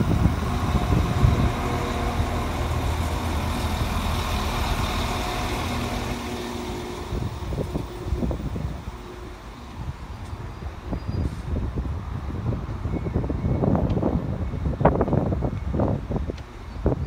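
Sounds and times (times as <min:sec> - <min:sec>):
diesel train engines droning: 0:00.0 - 0:17.0
wheel and rail noise: 0:00.0 - 0:17.0.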